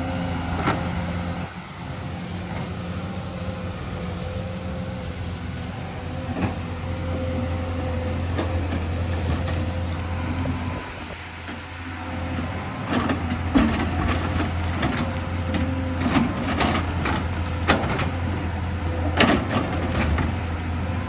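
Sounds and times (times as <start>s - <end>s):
constant whine: 0.0s - 21.0s
excavator diesel engine running: 0.0s - 21.0s.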